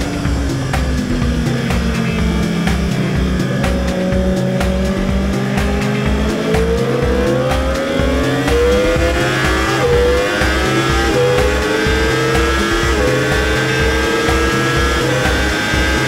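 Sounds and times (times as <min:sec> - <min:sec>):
background music with beat: 0:00.0 - 0:16.0
motorcycle engine accelerating: 0:00.0 - 0:16.0.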